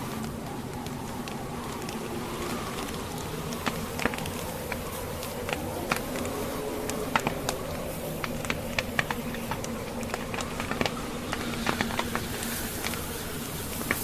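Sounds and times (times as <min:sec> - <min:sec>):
blizzard wind whooshing: 0:00.0 - 0:14.0
wood fire crackling: 0:00.0 - 0:14.0.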